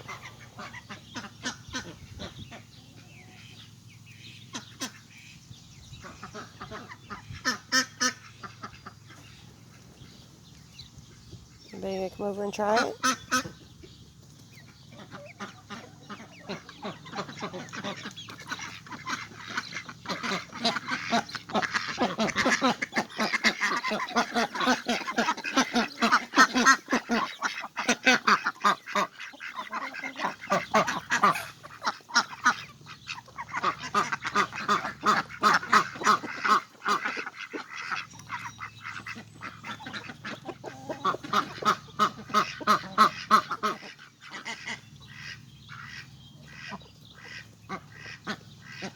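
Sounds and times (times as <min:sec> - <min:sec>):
ducks quacking: 0:00.0 - 0:48.9.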